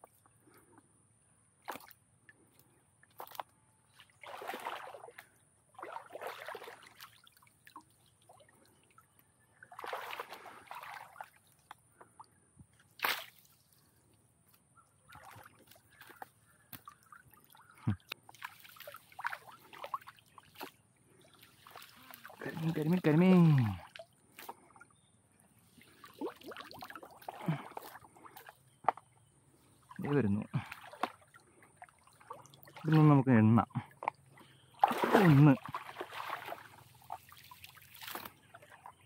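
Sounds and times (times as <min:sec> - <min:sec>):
water sloshing and splashing: 0:01.6 - 0:14.1, 0:15.0 - 0:39.0.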